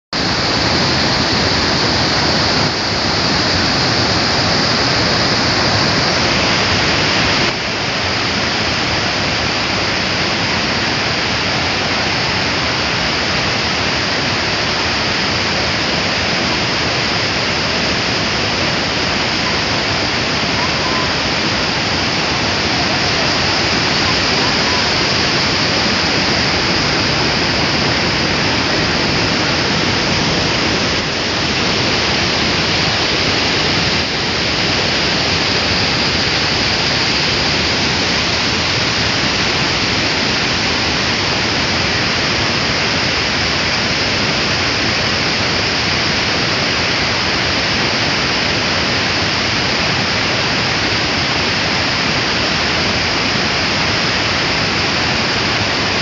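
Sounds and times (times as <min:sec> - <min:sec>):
waterfall rushing: 0:00.1 - 0:56.0.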